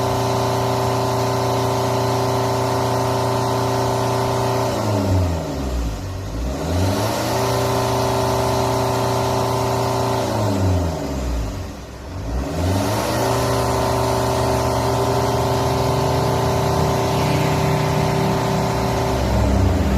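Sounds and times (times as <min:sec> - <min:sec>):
car engine revving high: 0:02.3 - 0:19.9.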